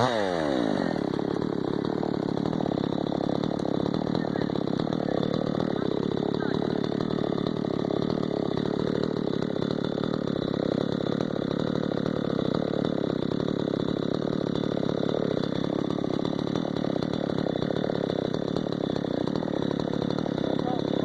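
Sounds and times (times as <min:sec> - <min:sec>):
chainsaw engine running: 0:00.0 - 0:21.0.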